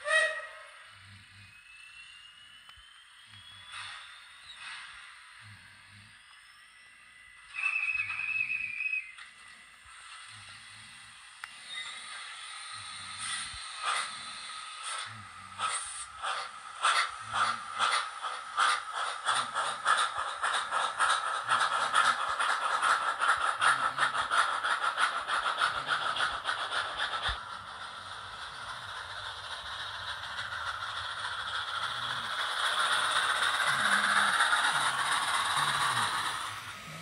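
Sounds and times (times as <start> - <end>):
model locomotive steam chuffs: 0.0 - 37.0
model train rattling on track: 0.0 - 37.0
steady hiss: 0.7 - 37.0.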